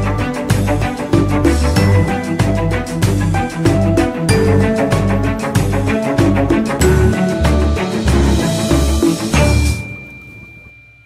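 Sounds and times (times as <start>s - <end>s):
background music with steady beat: 0.0s - 10.2s.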